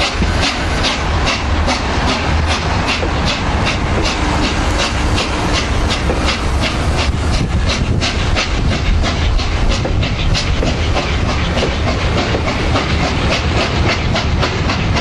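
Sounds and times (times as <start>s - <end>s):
steam locomotive beat: 0.0s - 15.0s.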